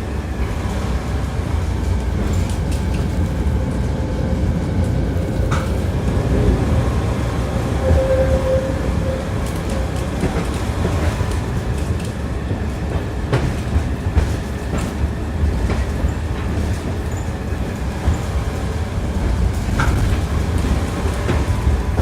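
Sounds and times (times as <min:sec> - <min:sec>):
tram rumbling: 0:00.0 - 0:22.0
wheels clattering on rails: 0:00.0 - 0:22.0.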